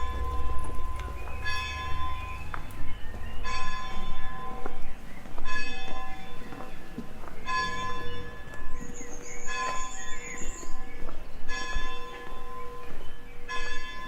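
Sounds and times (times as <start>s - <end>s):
church bell tolling: 0.0s - 14.0s.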